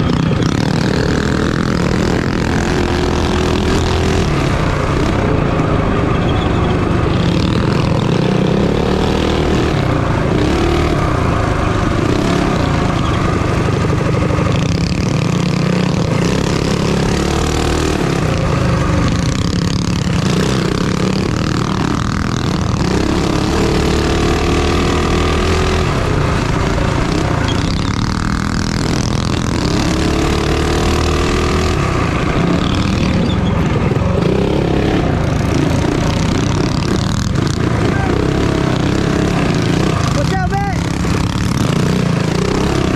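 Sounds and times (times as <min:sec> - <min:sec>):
minibike engine revving: 0:00.0 - 0:42.9.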